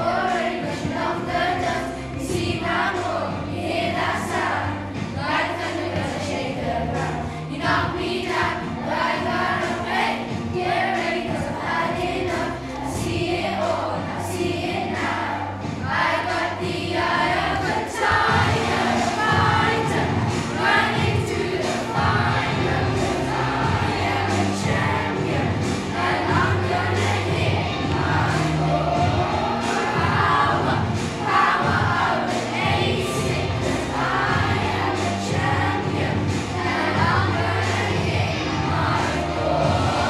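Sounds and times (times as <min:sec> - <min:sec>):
children singing together: 0:00.0 - 0:40.0
music with a steady beat: 0:00.0 - 0:40.0.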